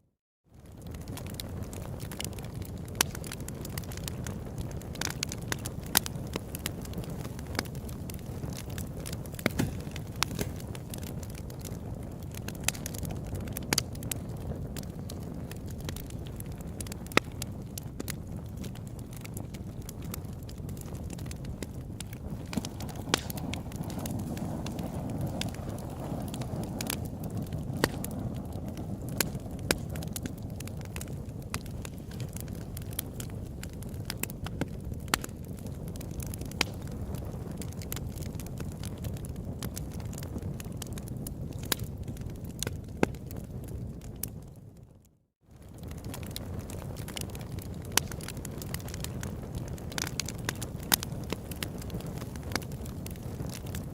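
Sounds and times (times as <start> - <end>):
campfire crackling and popping: 0.6 - 53.9.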